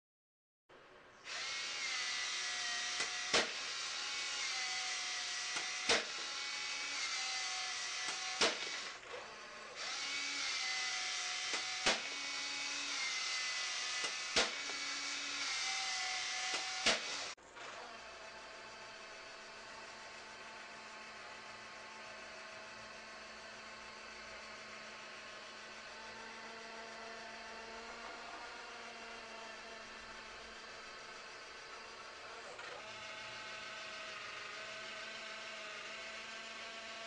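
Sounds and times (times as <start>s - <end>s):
small motor whirring: 1.2s - 37.0s.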